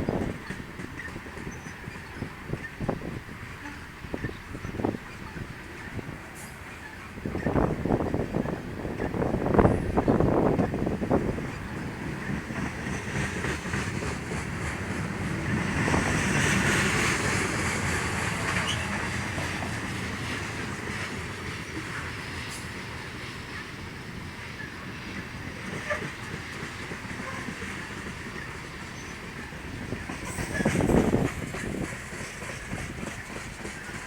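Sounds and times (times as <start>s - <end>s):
train wheels clattering on track: 0.0s - 34.0s.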